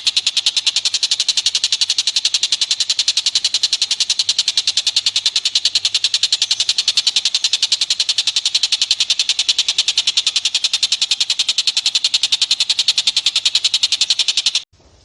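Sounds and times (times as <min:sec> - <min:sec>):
animal call rapid high trill: 0:00.0 - 0:14.7.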